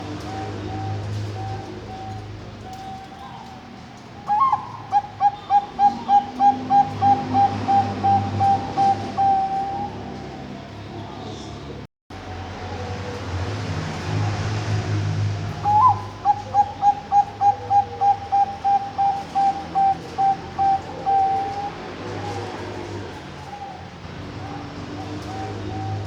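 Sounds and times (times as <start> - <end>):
dove cooing: 0.0 - 10.6, 15.5 - 26.0.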